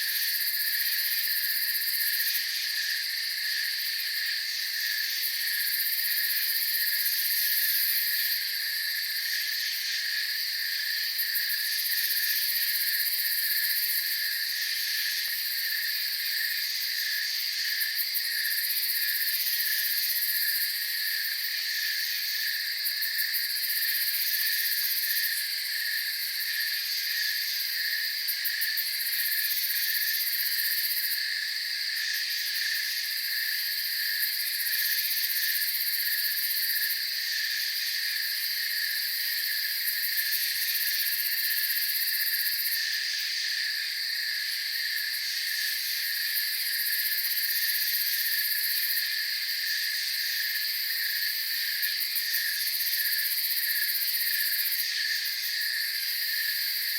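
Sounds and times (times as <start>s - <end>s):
crickets and insects chirping: 0.0s - 56.9s.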